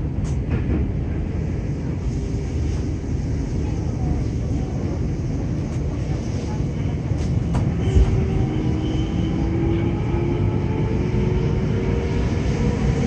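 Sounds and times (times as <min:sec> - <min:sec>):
subway car wheels rumbling: 0:00.0 - 0:13.0.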